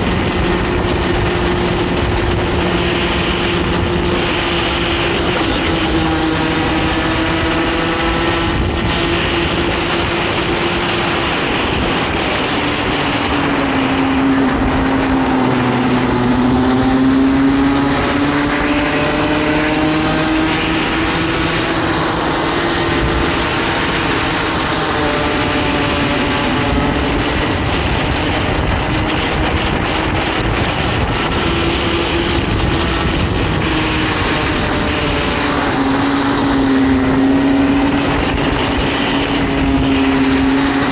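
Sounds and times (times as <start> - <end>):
kart engine running flat out: 0.0 - 40.9
wind and road noise: 0.0 - 40.9.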